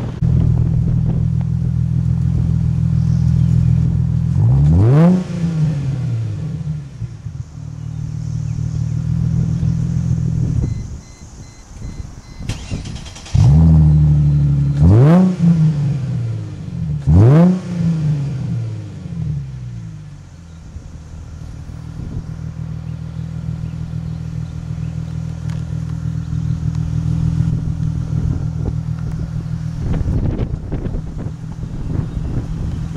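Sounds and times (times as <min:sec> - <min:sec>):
car engine revving and idling: 0:00.0 - 0:32.9.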